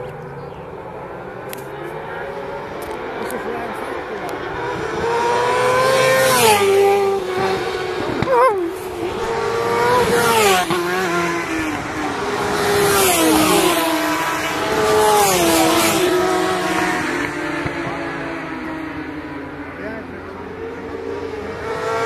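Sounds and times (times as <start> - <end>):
racing motorcycles passing at speed: 0.0 - 22.0.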